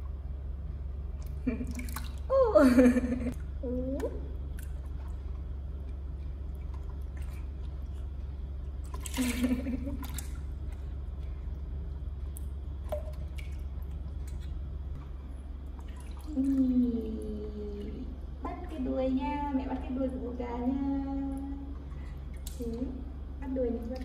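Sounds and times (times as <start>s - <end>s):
low hum: 0.0s - 24.0s
water sloshing and splashing: 1.0s - 20.6s, 21.2s - 24.0s.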